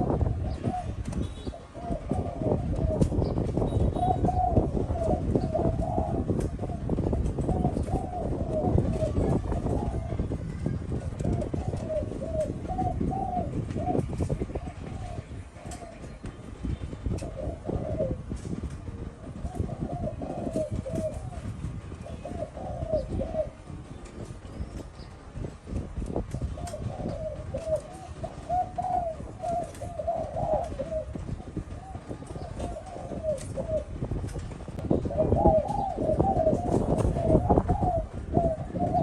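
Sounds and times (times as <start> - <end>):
dove cooing: 0.0 - 25.1, 25.7 - 39.0.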